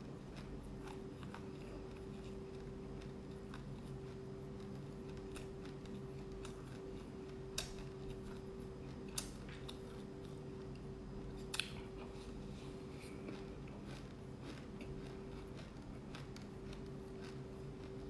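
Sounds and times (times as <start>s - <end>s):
seeds crunching while chewed: 0.0s - 18.0s
steady hum: 0.0s - 18.0s.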